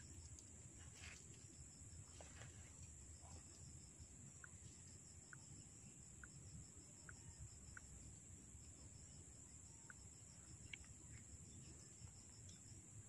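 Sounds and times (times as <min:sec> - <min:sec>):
faint chirps: 0:00.0 - 0:13.0.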